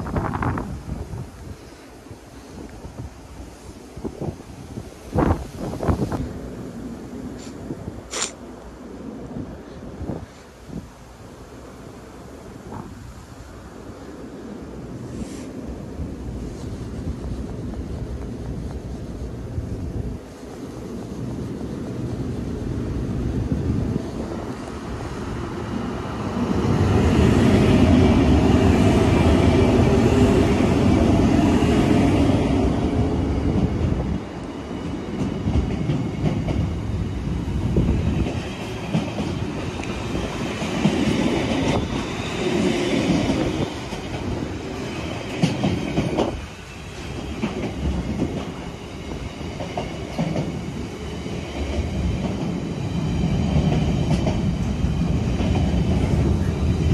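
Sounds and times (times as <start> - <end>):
electric locomotive passing: 0.0 - 56.9.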